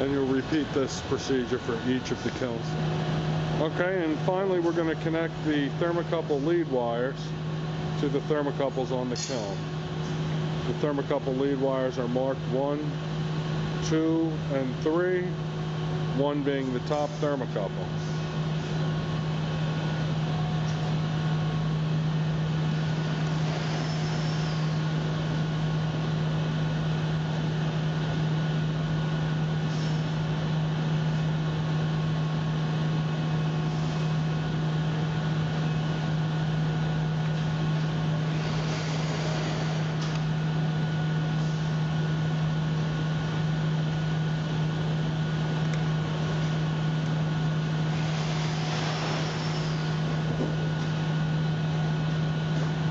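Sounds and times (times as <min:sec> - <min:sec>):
low mechanical hum: 0:00.0 - 0:52.9.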